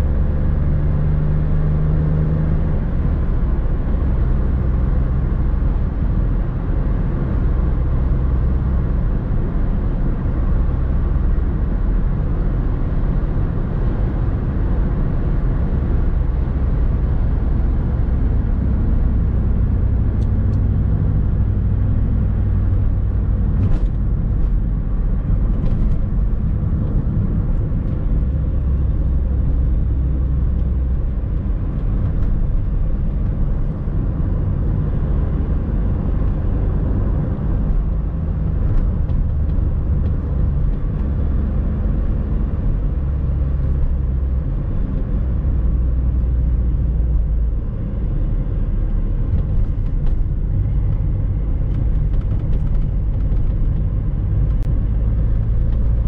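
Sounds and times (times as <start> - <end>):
car engine drone: 0.0 - 56.0
road rumble: 0.0 - 56.0.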